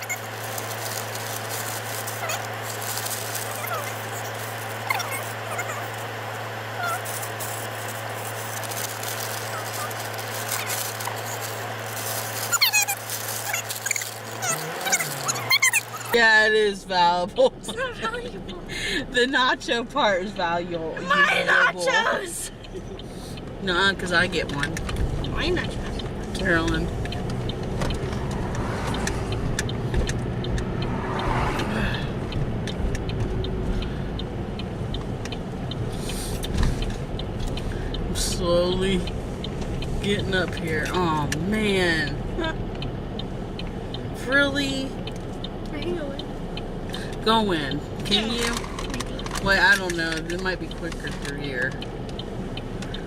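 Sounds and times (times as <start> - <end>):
low engine hum: 0.0 - 53.0
road noise: 0.0 - 53.0.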